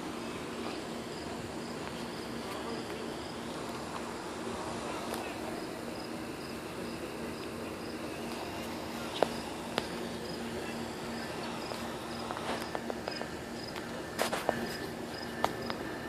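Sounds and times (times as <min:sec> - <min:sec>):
crickets chirping: 0:00.0 - 0:16.0
faint low hum: 0:00.0 - 0:16.0.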